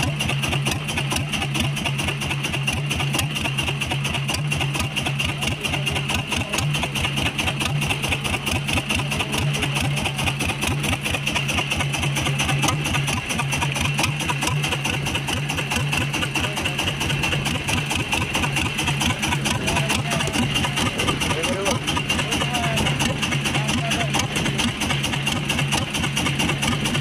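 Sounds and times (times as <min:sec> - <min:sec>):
small boat engine running: 0:00.0 - 0:27.0.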